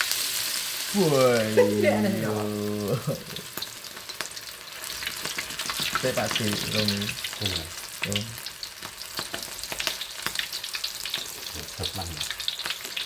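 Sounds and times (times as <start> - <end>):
food frying in hot oil: 0.0 - 13.0.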